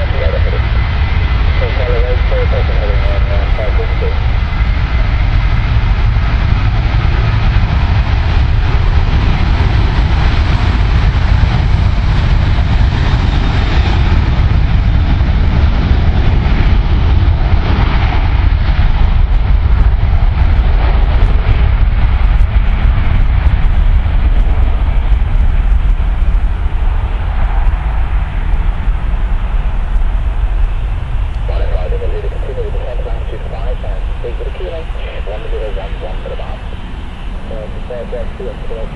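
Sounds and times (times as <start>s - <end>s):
jet engines at takeoff power: 0.0s - 38.9s.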